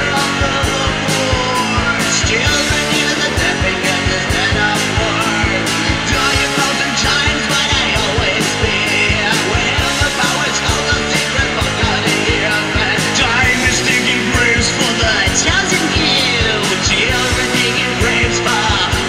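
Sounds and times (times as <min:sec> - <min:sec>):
bass guitar: 0:00.0 - 0:19.0
drums with cymbal hits: 0:00.0 - 0:19.0
electric guitar: 0:00.0 - 0:19.0.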